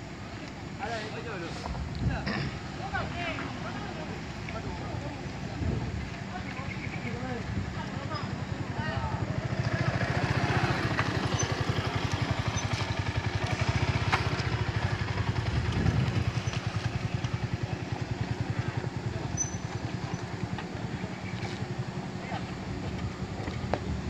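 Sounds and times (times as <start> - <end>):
motorcycle revving and pulling away: 2.5 - 24.0.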